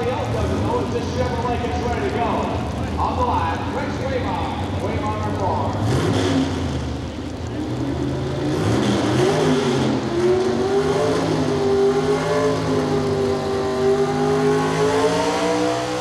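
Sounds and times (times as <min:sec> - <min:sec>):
truck engine at full throttle: 0:00.0 - 0:16.0.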